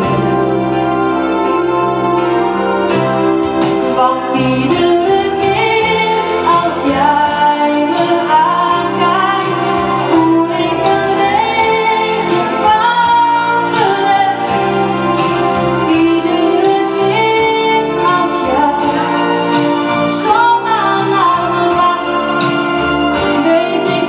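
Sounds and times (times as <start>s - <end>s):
instrumental accompaniment: 0.0s - 24.0s
woman singing into microphone: 3.8s - 24.0s.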